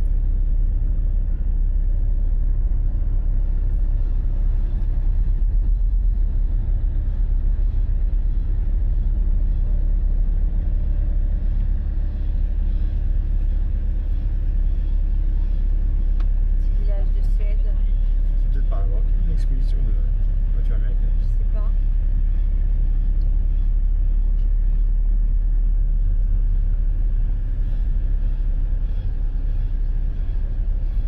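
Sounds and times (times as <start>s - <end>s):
engine rumble: 0.0s - 31.0s
road noise: 0.0s - 31.0s.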